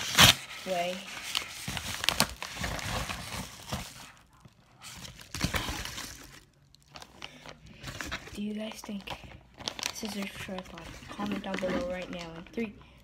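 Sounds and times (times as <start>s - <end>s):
packaging crinkling and rustling: 0.0s - 12.8s.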